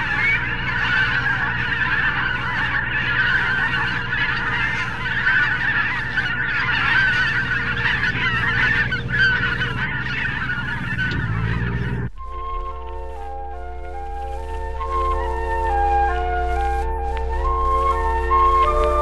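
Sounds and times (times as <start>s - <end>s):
flock of geese honking: 0.0s - 19.0s
steady low hum: 0.0s - 19.0s.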